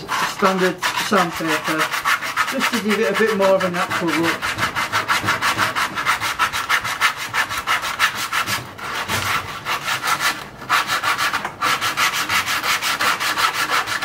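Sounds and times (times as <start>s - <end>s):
sandpaper rubbing on wood: 0.0s - 14.0s.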